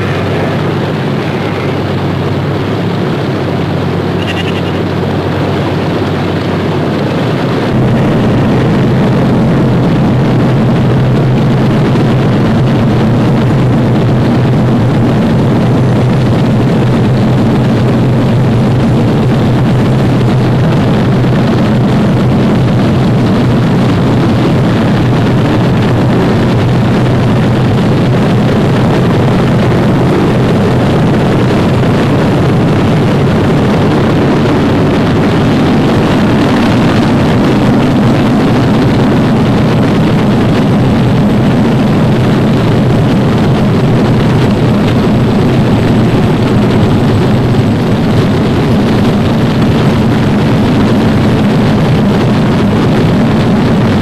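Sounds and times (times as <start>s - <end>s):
piston aircraft engines running: 0.0s - 54.0s.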